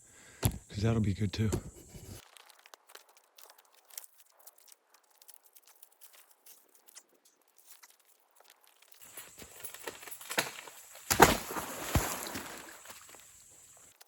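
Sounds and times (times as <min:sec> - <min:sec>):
dry twigs crackling: 0:02.2 - 0:14.0.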